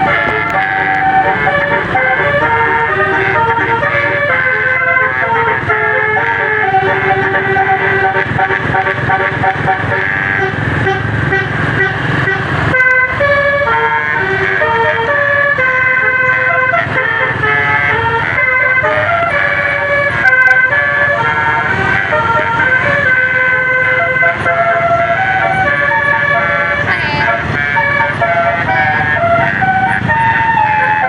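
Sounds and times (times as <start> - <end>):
multi-tone air horn melody: 0.0 - 31.0.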